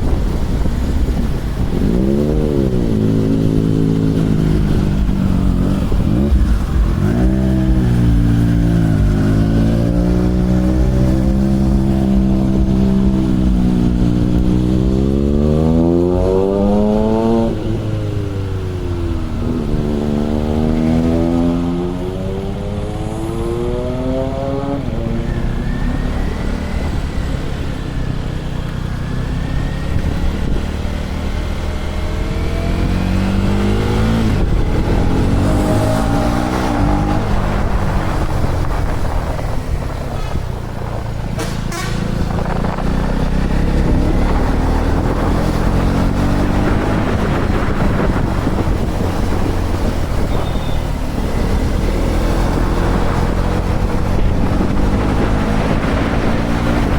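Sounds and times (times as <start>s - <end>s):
motorcycle engine revving through gears: 0.0s - 56.9s
wind rushing over microphone: 0.0s - 56.9s.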